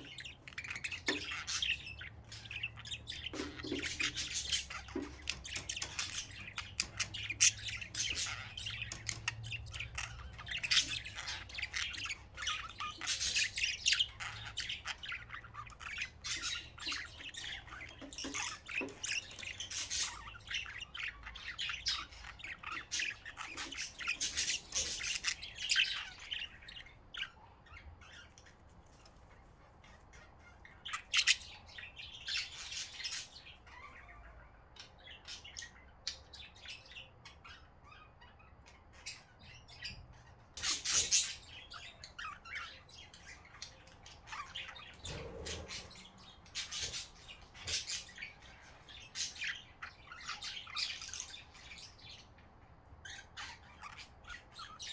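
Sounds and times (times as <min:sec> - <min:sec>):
budgerigars chirping and squawking: 0:00.0 - 0:54.9.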